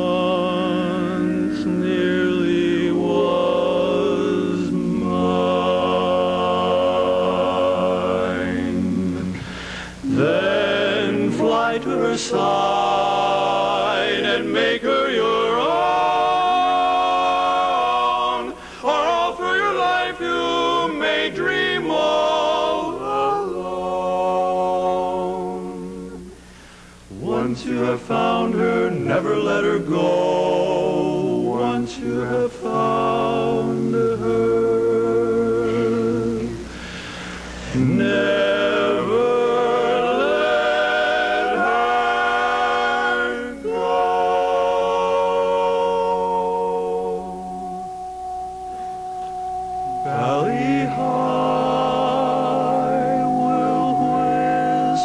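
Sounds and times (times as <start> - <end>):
male quartet singing a cappella: 0.0 - 48.3, 48.9 - 55.0.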